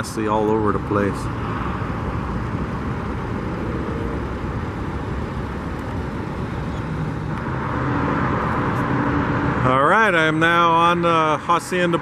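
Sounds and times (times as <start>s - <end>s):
passing cars rushing: 0.0s - 12.0s
vehicle engine hum: 0.0s - 12.0s.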